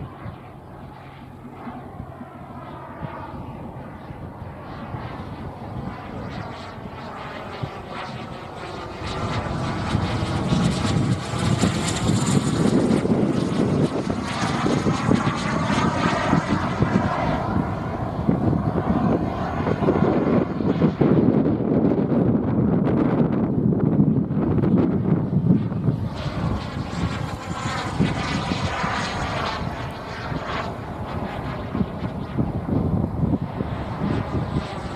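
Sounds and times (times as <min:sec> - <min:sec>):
model jet turbine flying overhead: 0:00.0 - 0:34.9.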